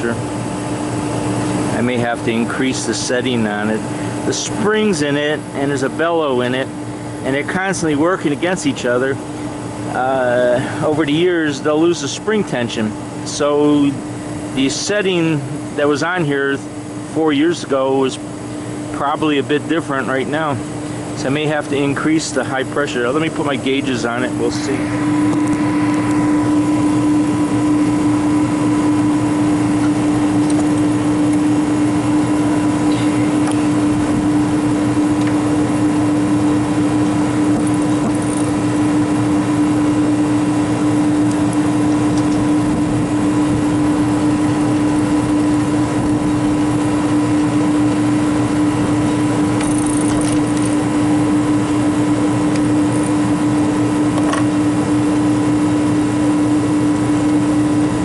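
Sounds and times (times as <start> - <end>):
compressor humming: 0.0 - 58.0
condenser fan noise: 0.0 - 58.0.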